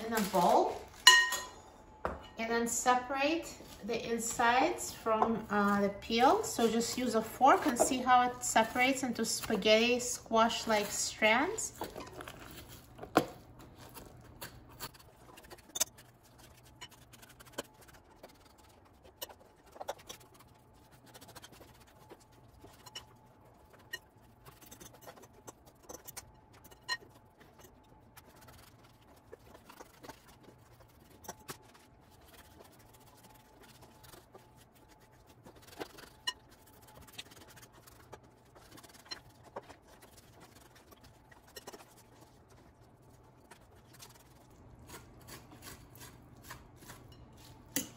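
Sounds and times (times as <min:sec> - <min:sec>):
fork scraping squash: 0:03.6 - 0:47.9.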